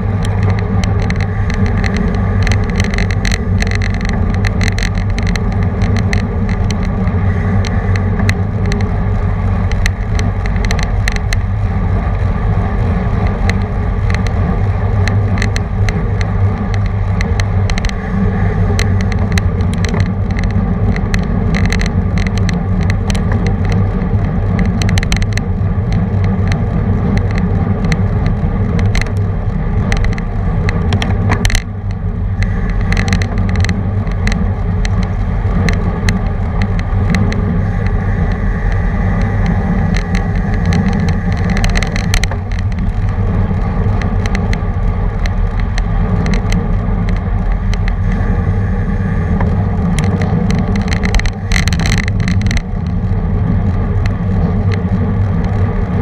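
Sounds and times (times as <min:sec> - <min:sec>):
bike clicks and knocks: 0:00.0 - 0:56.0
road and tyre rumble: 0:00.0 - 0:56.0
wind rushing over microphone: 0:00.0 - 0:56.0.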